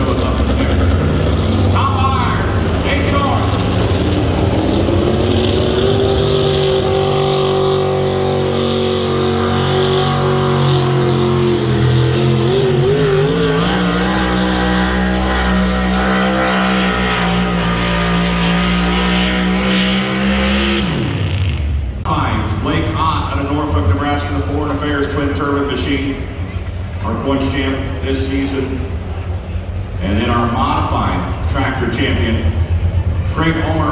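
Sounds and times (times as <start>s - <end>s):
engine running hard under load: 0.0s - 33.9s.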